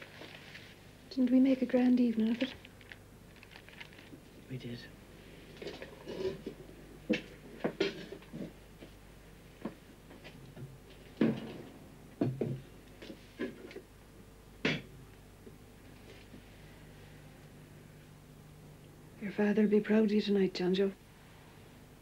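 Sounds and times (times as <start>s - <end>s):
faint room hum: 0.0s - 22.0s.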